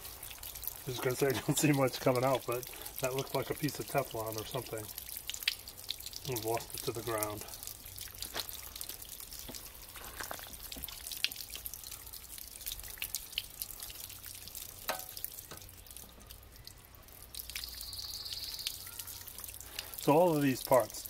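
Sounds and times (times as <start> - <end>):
water dripping and trickling: 0.0 - 21.0.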